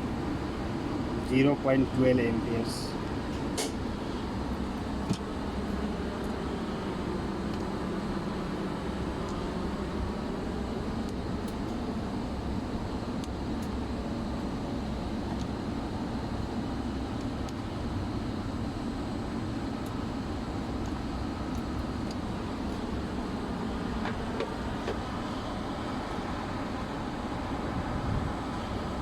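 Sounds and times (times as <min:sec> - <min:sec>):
machinery hum and rushing: 0:00.0 - 0:29.0.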